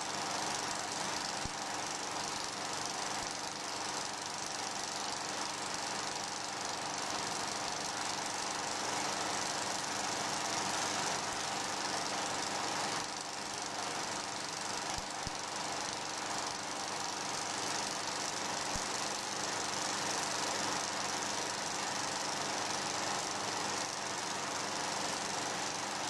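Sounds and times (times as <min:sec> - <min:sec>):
mechanical running noise with hiss: 0:00.0 - 0:26.0.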